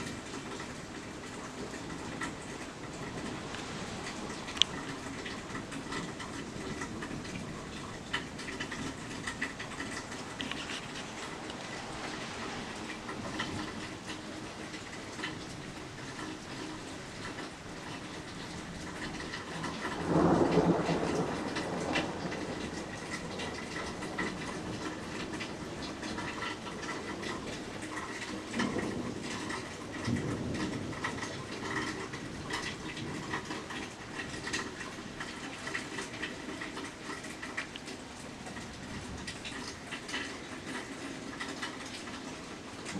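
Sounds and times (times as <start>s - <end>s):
thunder rumbling: 0.0s - 37.4s
steady rain: 0.0s - 42.9s.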